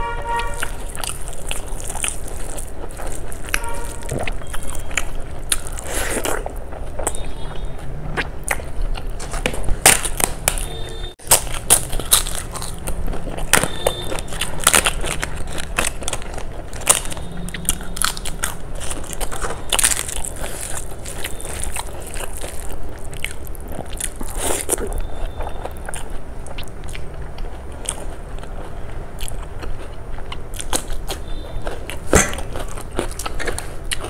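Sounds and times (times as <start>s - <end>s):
crunching bites and chewing: 0.4s - 34.0s.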